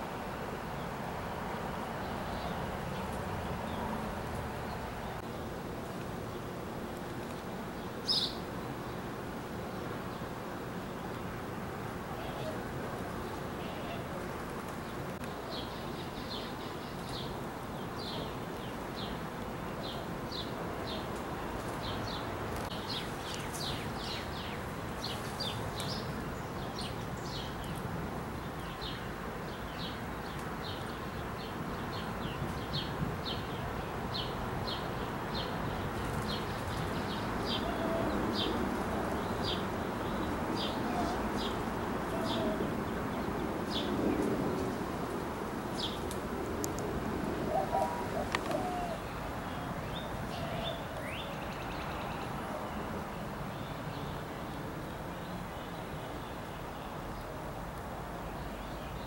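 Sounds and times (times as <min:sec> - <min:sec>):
low background rush: 0:00.0 - 0:59.0.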